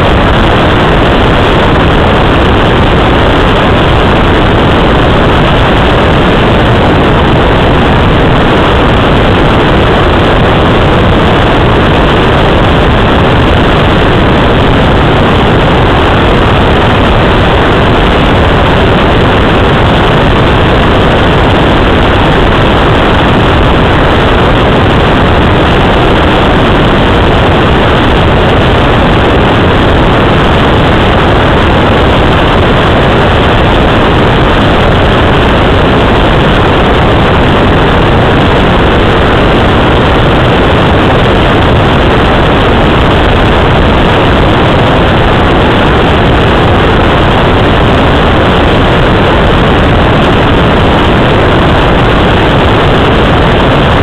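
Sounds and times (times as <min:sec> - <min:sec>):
rush of air around cockpit: 0:00.0 - 0:54.0.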